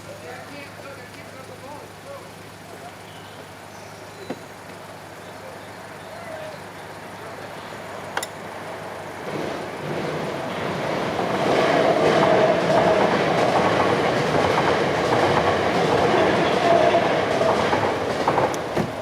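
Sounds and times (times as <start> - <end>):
electric train passing: 3.4 - 19.0.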